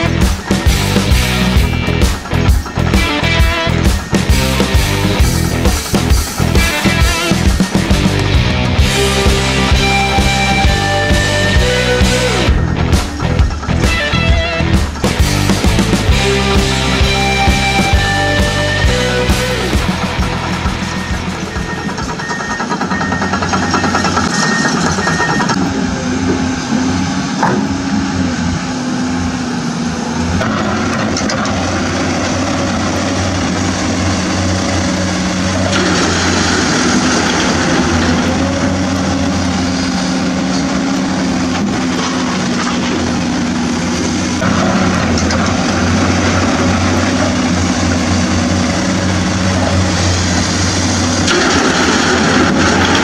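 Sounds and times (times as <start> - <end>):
excavator engine droning: 0.0 - 53.0.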